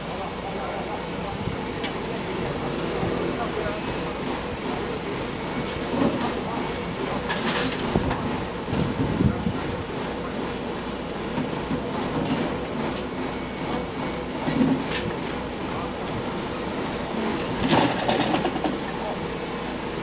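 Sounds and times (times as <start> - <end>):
crane engine running: 0.0 - 20.0.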